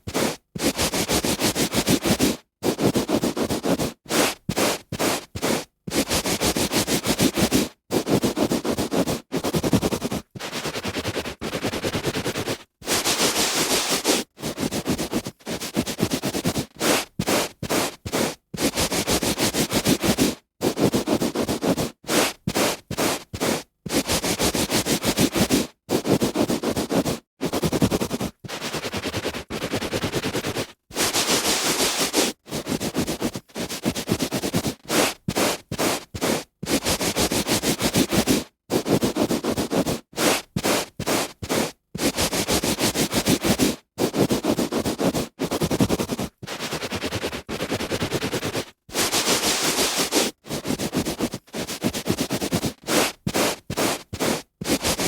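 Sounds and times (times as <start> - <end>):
hand rubbing on carpet: 0.0 - 55.0.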